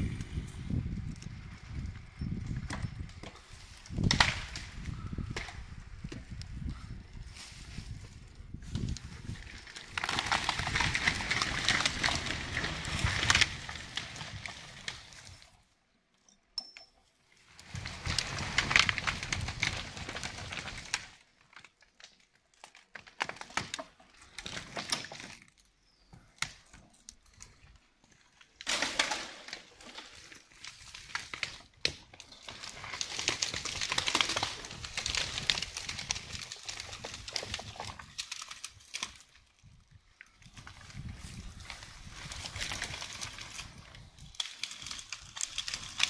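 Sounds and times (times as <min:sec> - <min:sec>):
leaves and twigs crackling: 0:00.0 - 0:15.8, 0:17.3 - 0:46.0.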